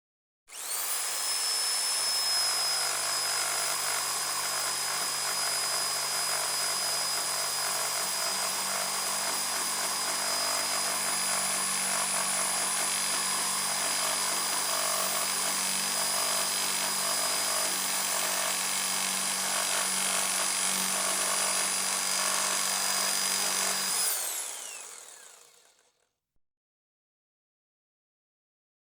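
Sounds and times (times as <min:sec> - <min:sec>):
electric jigsaw cutting: 0:00.5 - 0:26.2.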